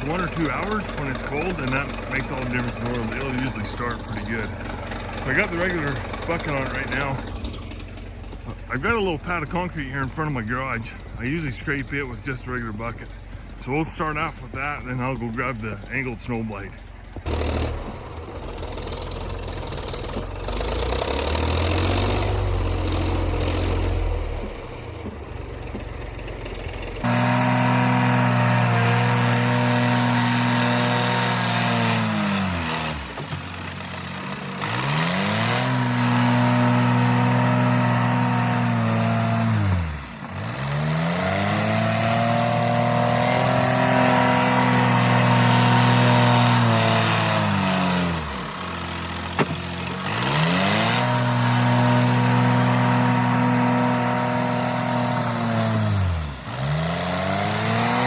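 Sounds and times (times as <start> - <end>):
backhoe diesel engine under load: 0.0 - 58.0.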